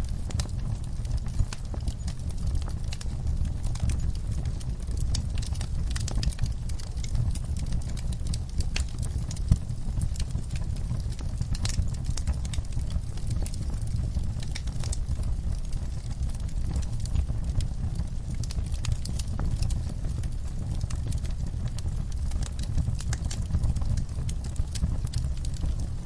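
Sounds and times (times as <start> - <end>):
fire crackling and popping: 0.0 - 26.0
fire flames rumbling: 0.0 - 26.0.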